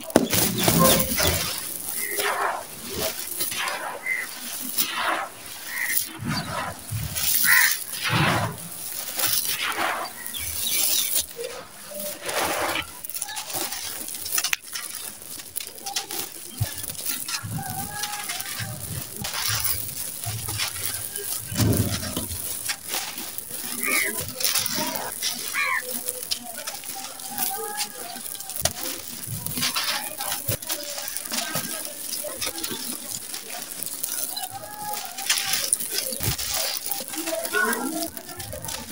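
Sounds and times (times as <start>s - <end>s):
grains pouring through fingers: 0.0s - 38.9s
hands crunching gritty mix: 0.0s - 38.9s.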